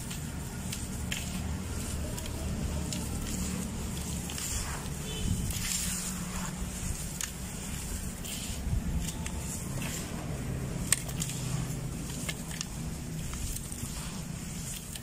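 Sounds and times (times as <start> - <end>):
sand crunching and pattering: 0.0 - 15.0.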